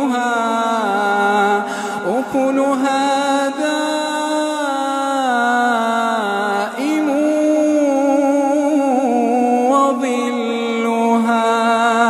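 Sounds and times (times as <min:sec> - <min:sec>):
man chanting recitation: 0:00.0 - 0:12.0.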